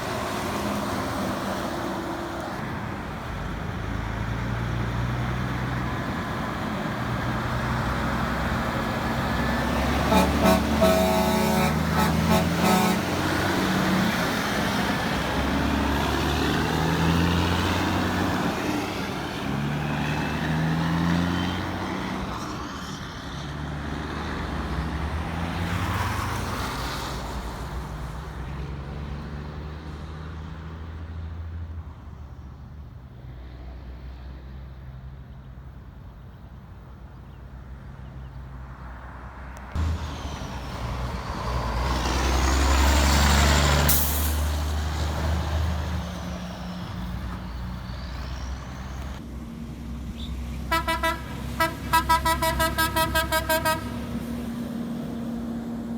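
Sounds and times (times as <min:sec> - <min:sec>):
heavy diesel trucks: 0:00.0 - 0:55.9
traffic: 0:00.0 - 0:55.9.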